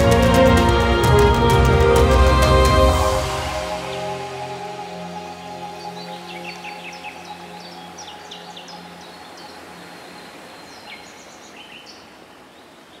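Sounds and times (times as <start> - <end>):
background music chords: 0.0 - 10.5
birds chirping: 0.0 - 13.0.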